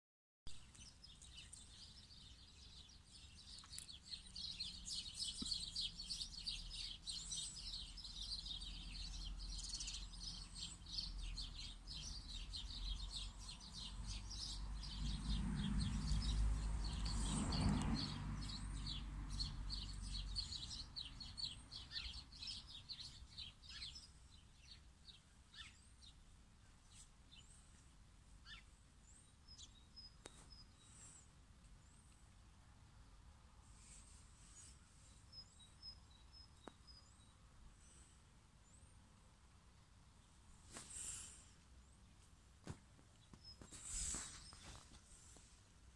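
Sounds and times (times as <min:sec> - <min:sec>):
small birds chirping: 0:00.5 - 0:45.9.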